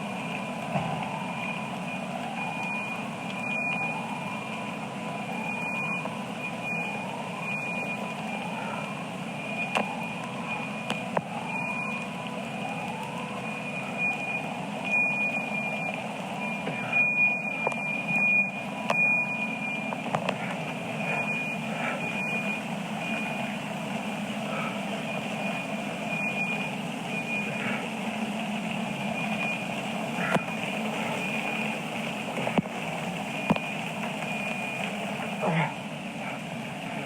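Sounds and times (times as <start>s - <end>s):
engine-like rumble: 0.0s - 37.0s.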